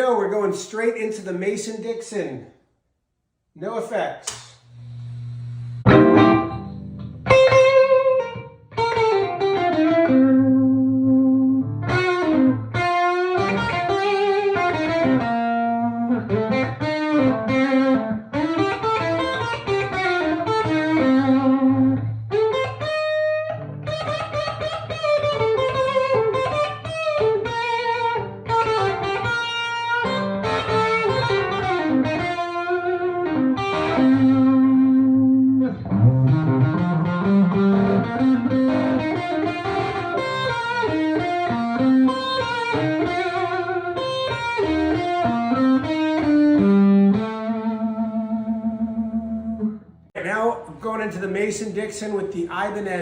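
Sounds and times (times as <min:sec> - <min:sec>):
electric guitar lead licks: 0:04.2 - 0:53.0.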